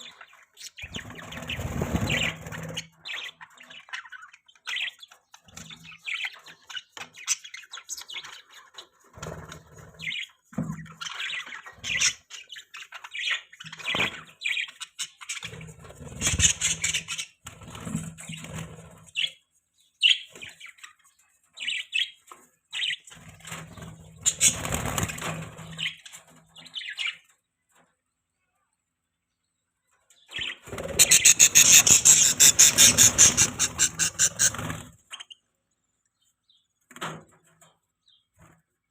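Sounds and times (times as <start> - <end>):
budgies chirping: 0.0 - 27.3, 30.1 - 35.5.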